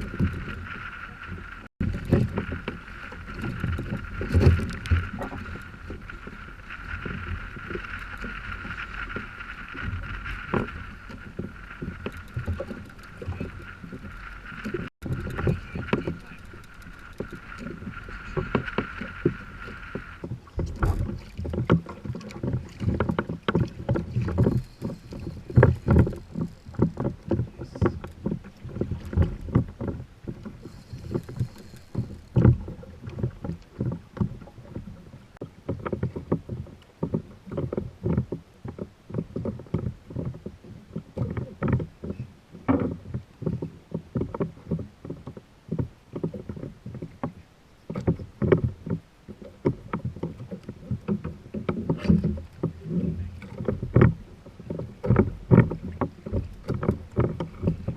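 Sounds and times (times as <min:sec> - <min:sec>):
water slapping against kayak hull: 0:00.0 - 0:57.9.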